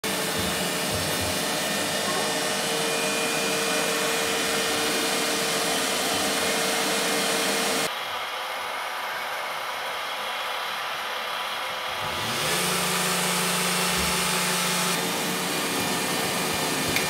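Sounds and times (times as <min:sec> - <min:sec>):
small fan motor rushing and humming: 0:00.0 - 0:17.0.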